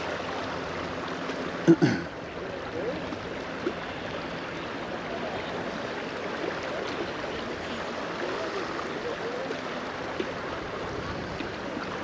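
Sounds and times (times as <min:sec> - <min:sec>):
water gurgling: 0:00.0 - 0:12.0.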